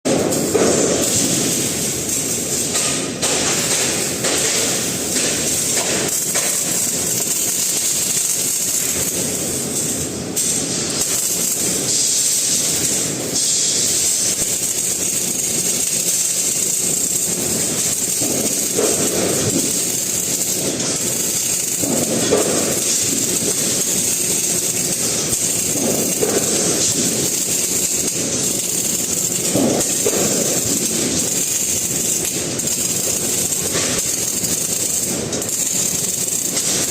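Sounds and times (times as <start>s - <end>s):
welding arc crackling hiss: 0.1s - 36.9s.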